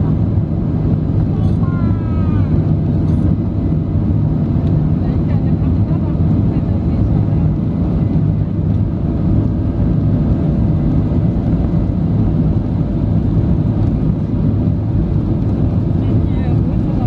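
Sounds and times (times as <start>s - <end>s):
jet engine rumble in cabin: 0.0s - 17.0s.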